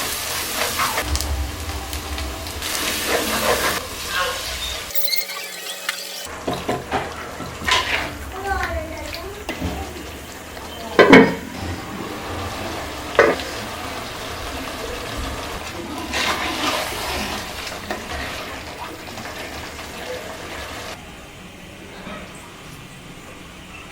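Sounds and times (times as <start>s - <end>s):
frying noise: 0.0s - 23.7s.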